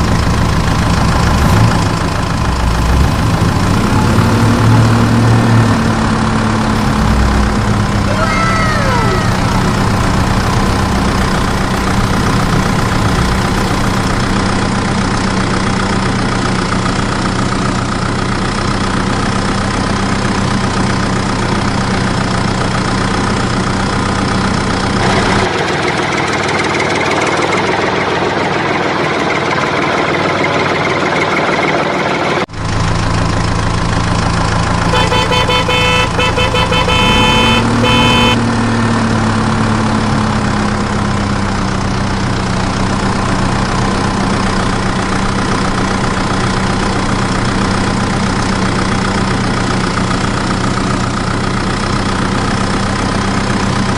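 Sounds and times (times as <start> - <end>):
tractor engine humming: 0.0 - 25.0, 32.5 - 53.9.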